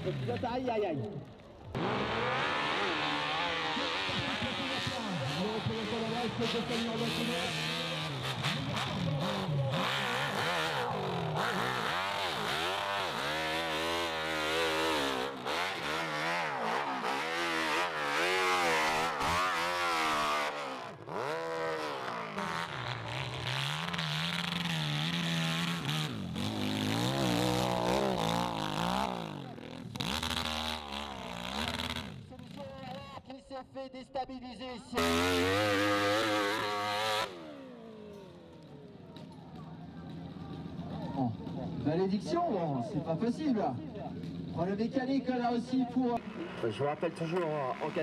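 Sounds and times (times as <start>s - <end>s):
dirt bike engines revving: 0.0s - 33.2s, 34.9s - 48.0s.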